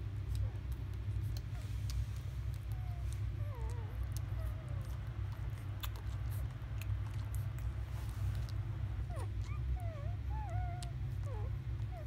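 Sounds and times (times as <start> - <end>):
puppies suckling wet smacking: 0.0 - 12.0
steady low rumble: 0.0 - 12.0
puppy whimper: 0.3 - 12.0.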